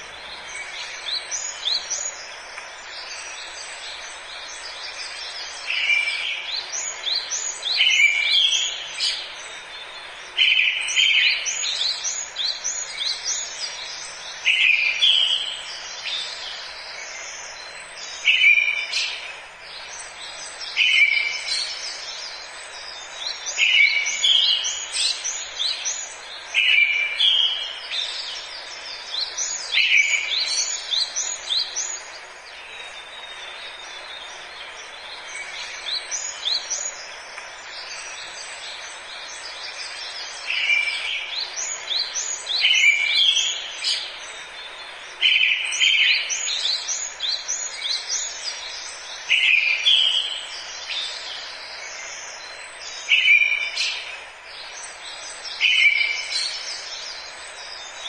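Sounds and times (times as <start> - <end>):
birds chirping: 0.0 - 58.0
forest ambience hiss: 0.0 - 58.0.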